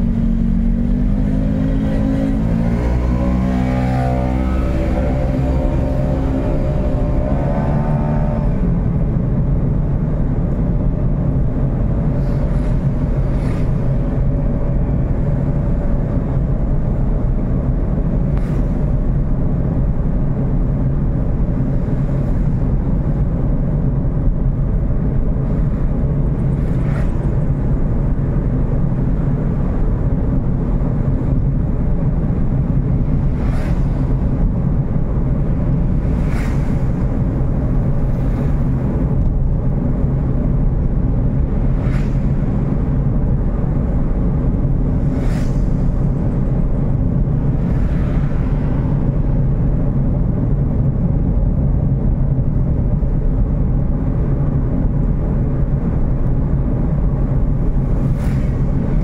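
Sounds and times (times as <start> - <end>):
road and wind noise: 0.0 - 59.0
vehicle engine droning: 0.0 - 59.0.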